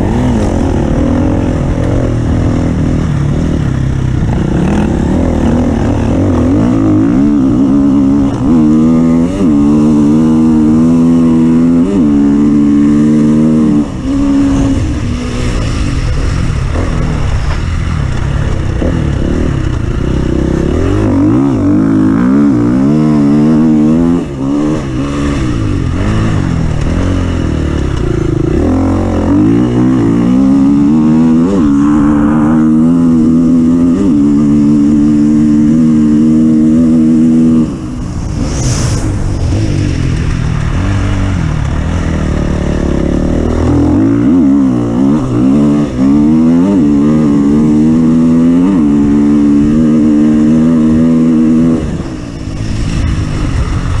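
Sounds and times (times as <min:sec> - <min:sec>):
off-road vehicle engine revving: 0:00.0 - 0:53.8.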